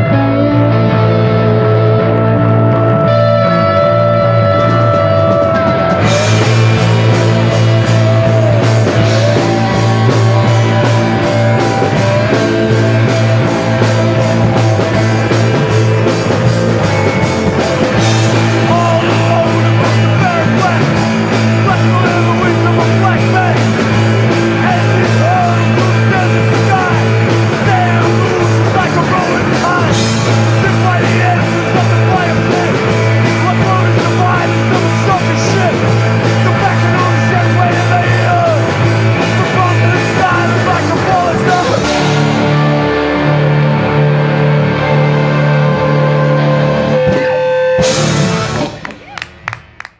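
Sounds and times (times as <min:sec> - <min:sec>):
rock band playing: 0:00.0 - 0:49.9
man singing: 0:02.8 - 0:42.8.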